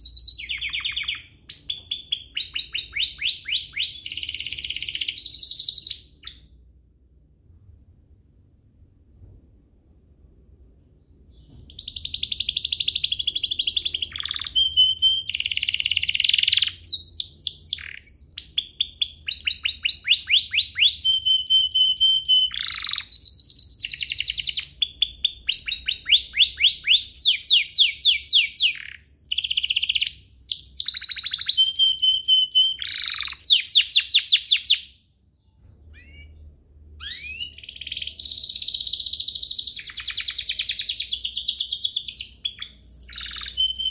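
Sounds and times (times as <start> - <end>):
canary singing trills: 0.0 - 6.6, 11.3 - 43.9.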